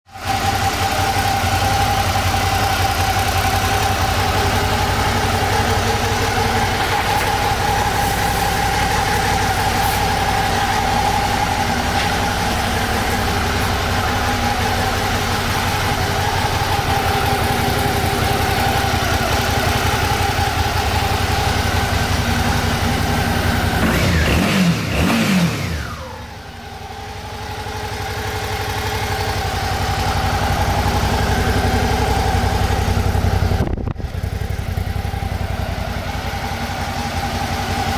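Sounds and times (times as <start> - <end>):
motorcycle engine idling: 0.1 - 37.9.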